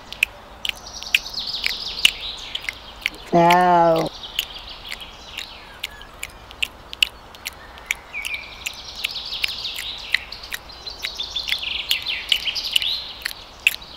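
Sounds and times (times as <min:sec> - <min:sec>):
sharp clicks: 0:00.0 - 0:13.8
birds chirping and twittering: 0:00.0 - 0:13.9.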